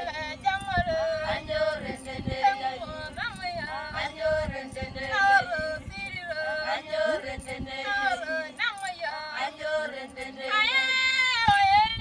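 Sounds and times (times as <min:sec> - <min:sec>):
women singing together: 0:00.0 - 0:12.0.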